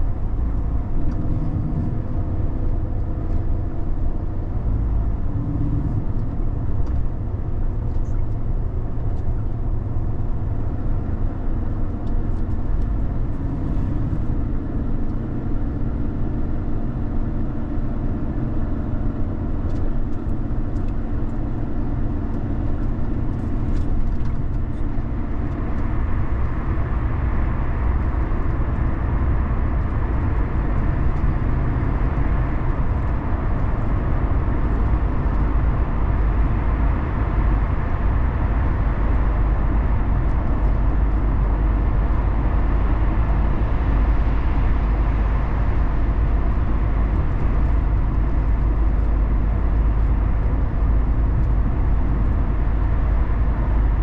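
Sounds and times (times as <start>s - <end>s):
car engine drone: 0.0s - 54.0s
tyre and road noise: 0.0s - 54.0s.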